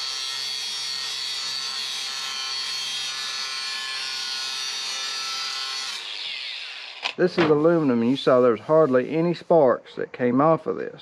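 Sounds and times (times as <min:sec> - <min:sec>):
angle grinder grinding metal: 0:00.0 - 0:08.9.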